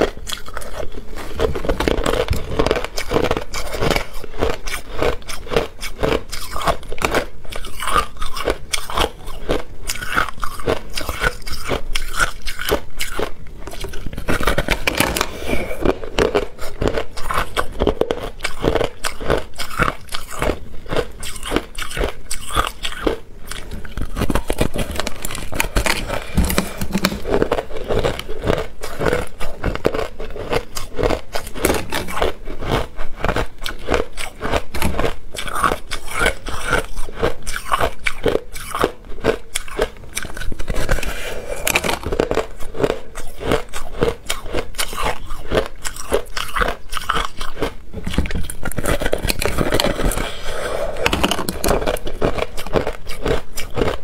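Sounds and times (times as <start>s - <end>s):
chewing crushed ice: 0.0s - 54.0s.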